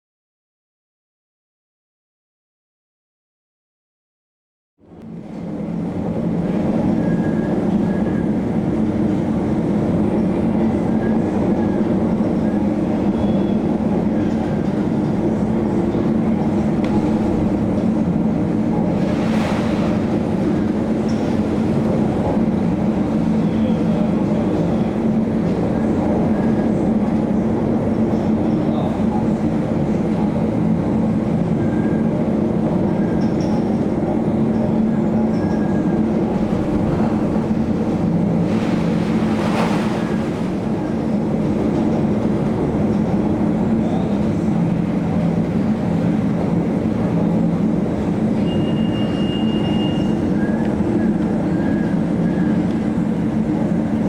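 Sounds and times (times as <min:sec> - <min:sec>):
ship engines droning: 0:04.8 - 0:54.0.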